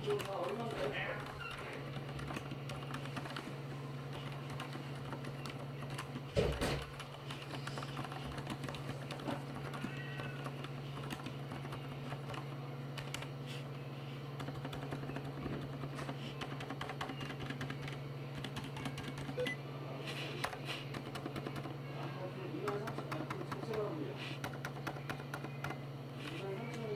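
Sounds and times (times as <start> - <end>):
fast typing on keyboard: 0.0 - 13.6, 14.3 - 26.9
steady low hum: 0.0 - 26.9.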